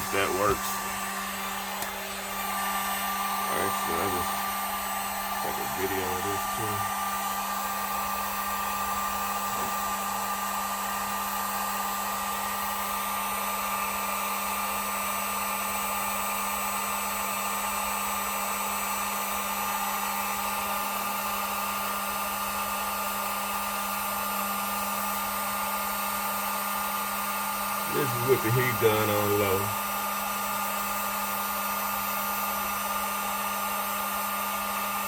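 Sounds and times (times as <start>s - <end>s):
heat gun blowing air: 0.0s - 35.0s.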